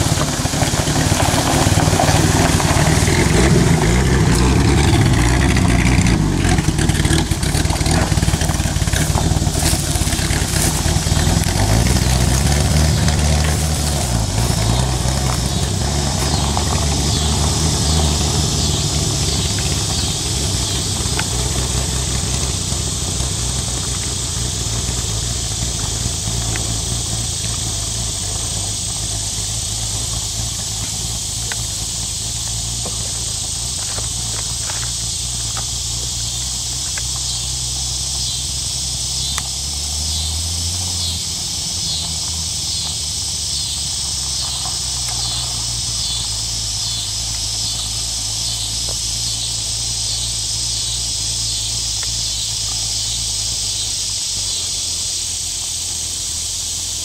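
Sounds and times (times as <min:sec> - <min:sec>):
insects buzzing in chorus: 0:00.0 - 0:57.0
van engine humming: 0:00.0 - 0:57.0.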